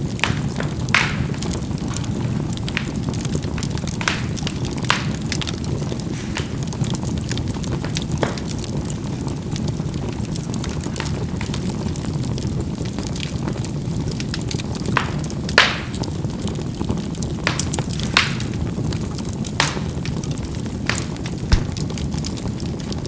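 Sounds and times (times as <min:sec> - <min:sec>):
coals crackling and popping: 0:00.0 - 0:23.0
fire rushing: 0:00.0 - 0:23.0.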